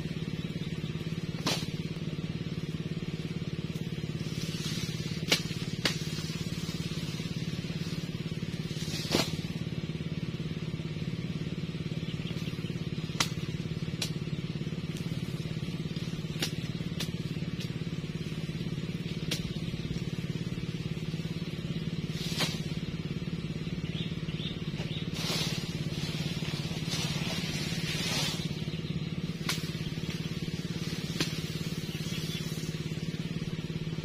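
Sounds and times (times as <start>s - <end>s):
leaves rustling: 0.0s - 10.4s, 11.8s - 34.0s
engine-like drone: 0.0s - 34.0s
machete chopping grass stalks: 0.6s - 9.8s, 12.3s - 23.4s, 24.4s - 34.0s.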